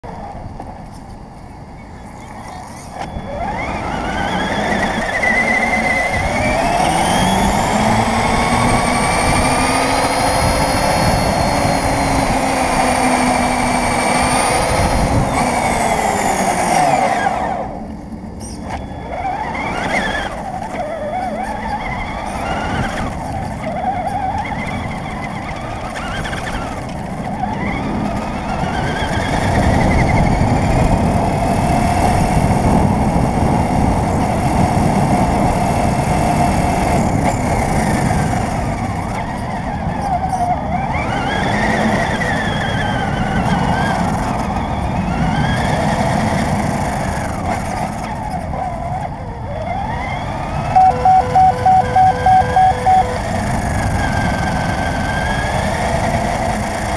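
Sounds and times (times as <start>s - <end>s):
tyres rumbling on asphalt: 0.0s - 56.9s
rc car motor whine: 0.2s - 56.9s.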